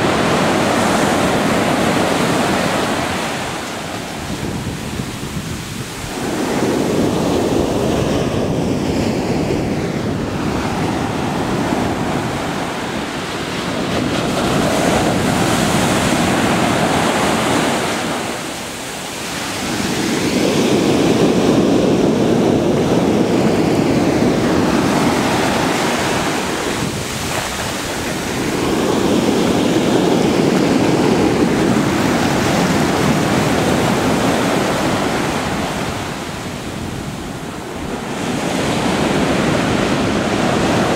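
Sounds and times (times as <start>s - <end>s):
surf breaking on shore: 0.0s - 40.9s.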